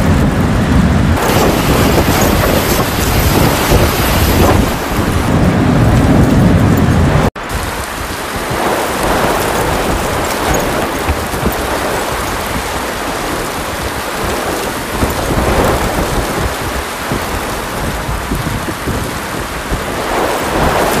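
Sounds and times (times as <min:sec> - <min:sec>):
rain: 0:00.0 - 0:21.0
rushing floodwater: 0:00.0 - 0:21.0
wind buffeting microphone: 0:00.0 - 0:21.0.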